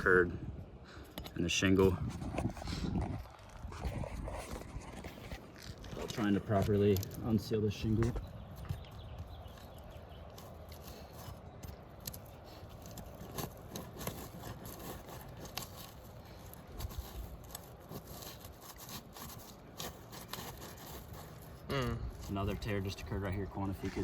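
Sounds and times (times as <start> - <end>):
shingle scraping and crackling: 0.0 - 24.0.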